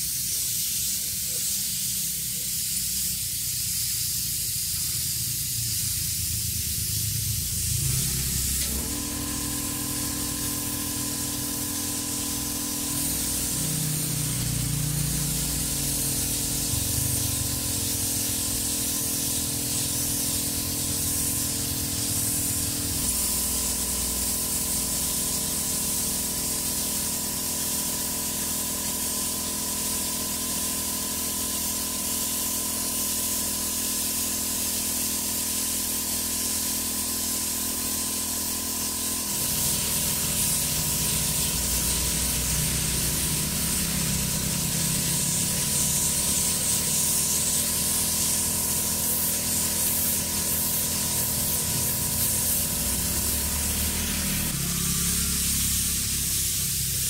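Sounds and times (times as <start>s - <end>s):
spray paint hissing: 0.0s - 57.0s.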